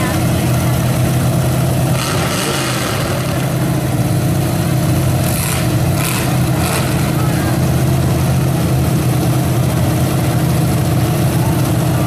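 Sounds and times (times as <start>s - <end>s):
car engines idling loudly: 0.0s - 12.0s.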